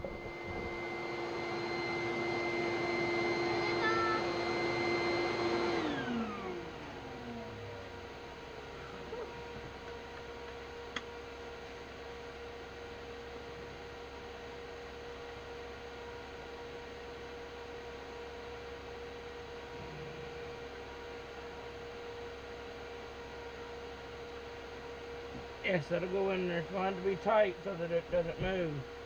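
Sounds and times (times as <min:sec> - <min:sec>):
steady electrical hum: 0:00.0 - 0:29.0.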